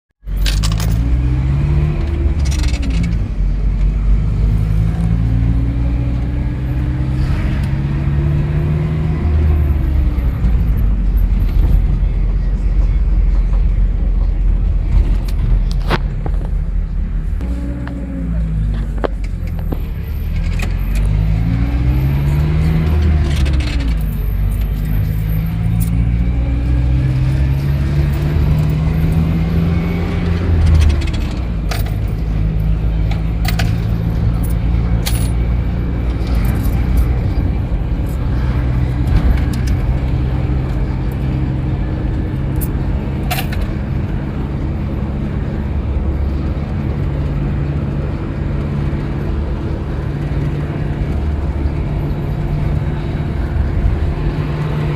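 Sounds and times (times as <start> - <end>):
minibus engine accelerating: 0.2 - 54.9.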